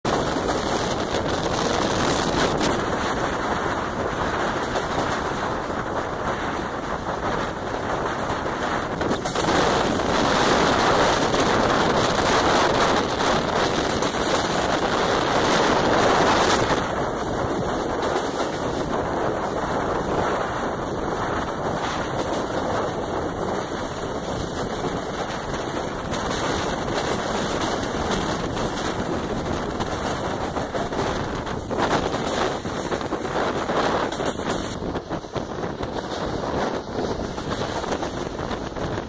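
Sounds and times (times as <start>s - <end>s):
train wheels rushing and clattering: 0.0s - 39.0s
wind buffeting microphone: 0.0s - 39.0s.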